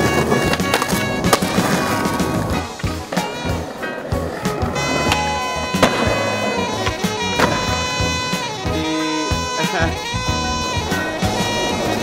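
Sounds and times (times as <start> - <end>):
jazzy swing tune with horns: 0.0 - 12.0.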